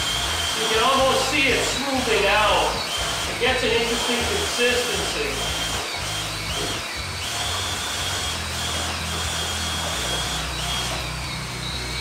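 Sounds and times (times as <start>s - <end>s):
electric drill mixer whine: 0.0s - 12.0s.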